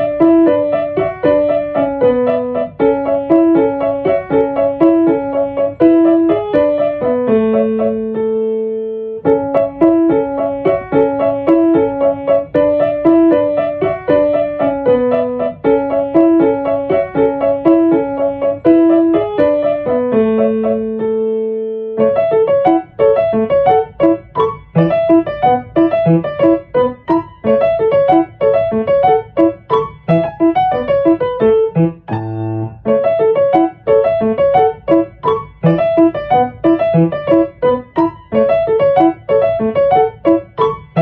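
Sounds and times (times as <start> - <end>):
background piano music: 0.0 - 41.0.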